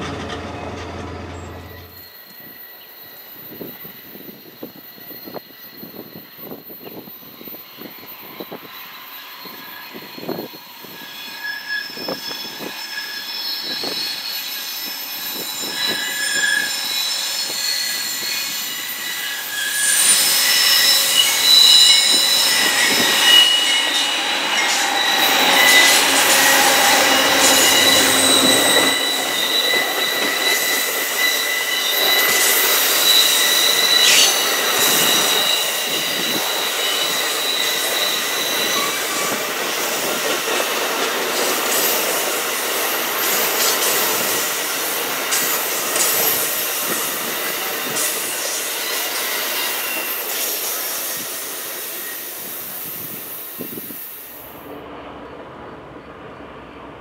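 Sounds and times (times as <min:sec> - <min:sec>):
train cars rolling past: 0:00.0 - 0:04.1, 0:04.7 - 0:57.0
train wheels squealing on rails: 0:00.0 - 0:57.0.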